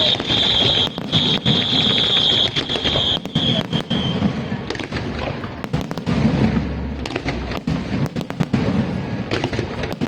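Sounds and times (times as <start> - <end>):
fireworks booming: 0.0 - 10.0
fireworks crackling and popping: 0.0 - 10.0.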